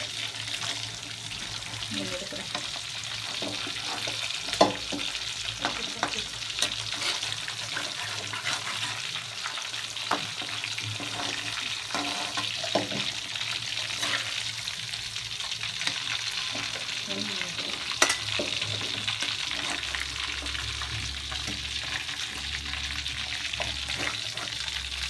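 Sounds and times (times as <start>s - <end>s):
fish sizzling in hot oil: 0.0s - 25.0s
metal spatula scraping a pan: 0.1s - 15.0s, 15.7s - 25.0s.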